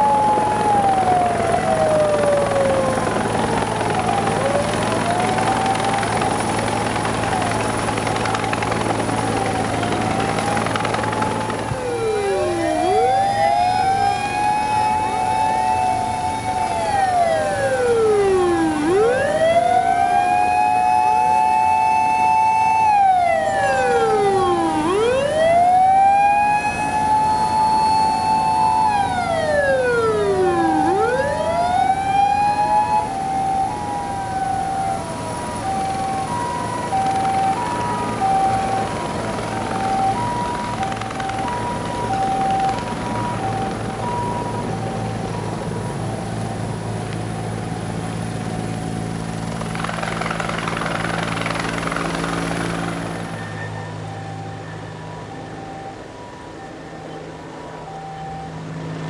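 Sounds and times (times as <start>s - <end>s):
heavy engine noise: 0.0s - 59.0s
two-tone hi-lo siren: 0.0s - 59.0s
wailing electronic sirens: 0.0s - 59.0s.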